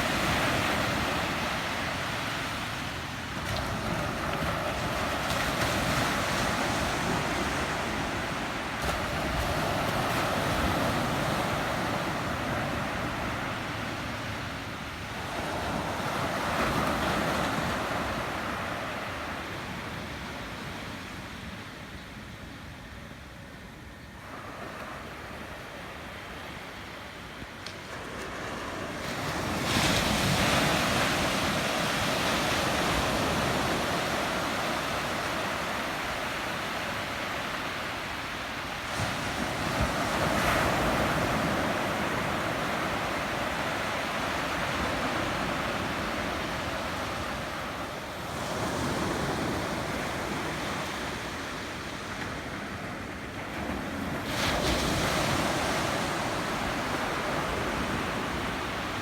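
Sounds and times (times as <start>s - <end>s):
waves crashing: 0.0s - 19.9s, 24.2s - 59.0s
surf washing on sand: 0.0s - 23.0s, 23.7s - 59.0s.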